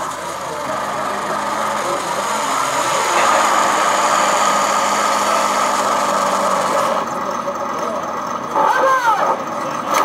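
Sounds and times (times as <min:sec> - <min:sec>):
model tank motor and tracks: 0:00.0 - 0:10.0.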